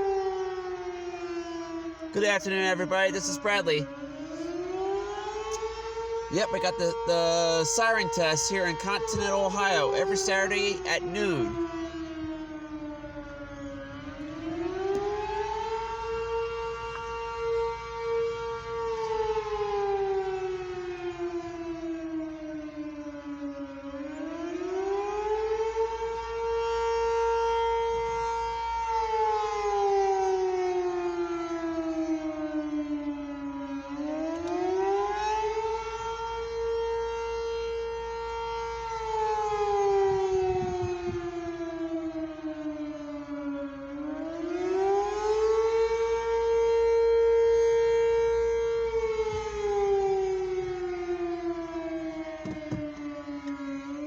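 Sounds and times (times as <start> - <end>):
civil defense siren wailing: 0.0 - 54.0.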